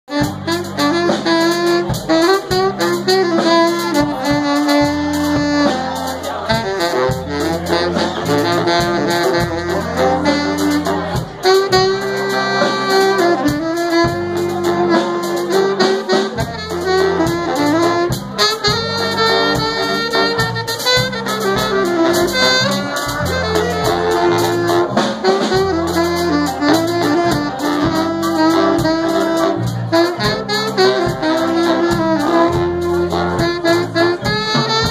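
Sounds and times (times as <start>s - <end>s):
drums with cymbal hits: 0.1s - 34.9s
saxophone melody: 0.1s - 34.9s
low bass line: 6.5s - 34.9s.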